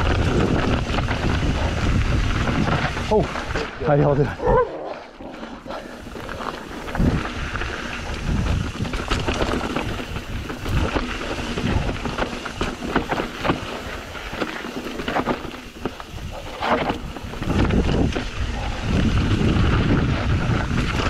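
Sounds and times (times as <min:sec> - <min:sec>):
wind buffeting microphone: 0:00.0 - 0:14.5, 0:15.2 - 0:21.0
bike rattling over rocks: 0:00.0 - 0:21.0
tyres crunching over gravel: 0:00.0 - 0:21.0.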